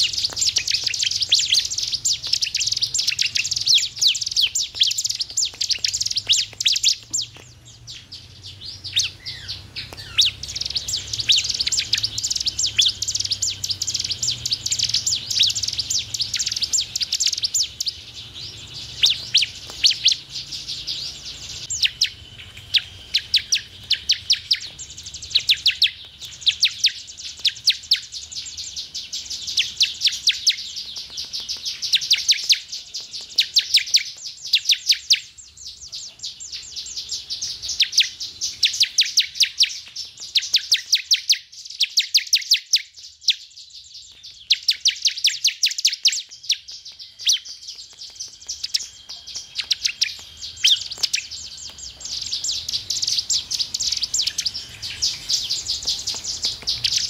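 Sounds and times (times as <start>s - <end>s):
bird singing high chirps: 0.0s - 57.0s.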